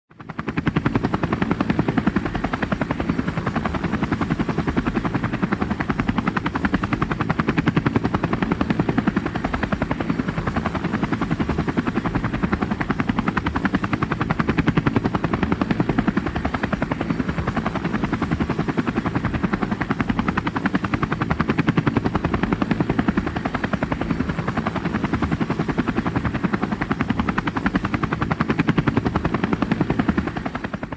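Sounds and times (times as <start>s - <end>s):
helicopter rotor chopping: 0.2s - 30.9s.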